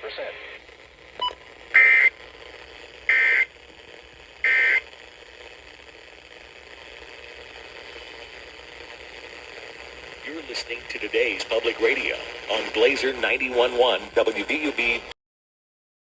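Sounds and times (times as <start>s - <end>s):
faint radio hiss: 0.0s - 15.2s.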